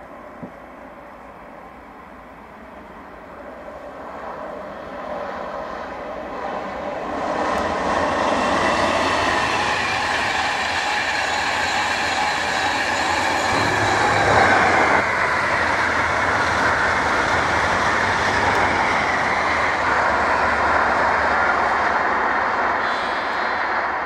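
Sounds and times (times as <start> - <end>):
train wheels rushing on rails: 1.8 - 24.0.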